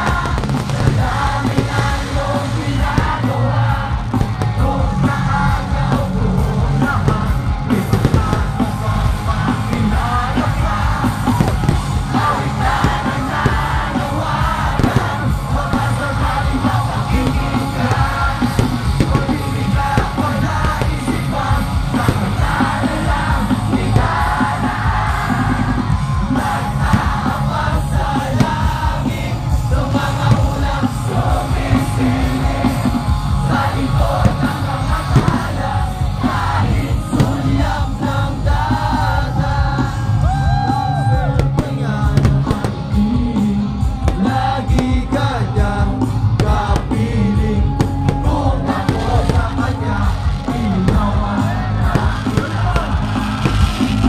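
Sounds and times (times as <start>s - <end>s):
crowd singing along: 0.0s - 54.0s
crowd yelling: 0.0s - 54.0s
live rock band playing: 0.0s - 54.0s.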